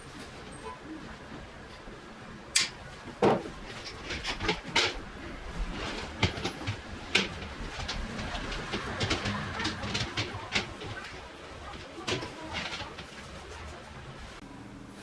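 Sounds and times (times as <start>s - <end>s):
hard parts knocking and clattering: 0.0s - 14.4s.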